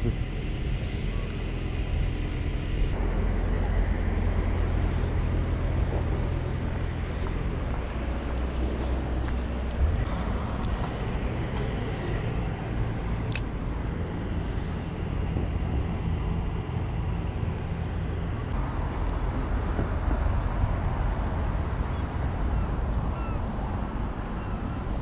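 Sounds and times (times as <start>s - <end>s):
urban background rumble: 0.0s - 25.0s.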